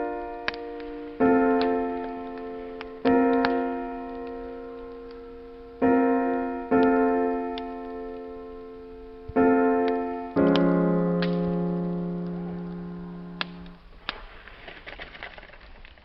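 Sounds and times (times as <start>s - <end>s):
slow piano chords: 0.0s - 14.0s
crackling wood fire pops: 0.0s - 16.0s.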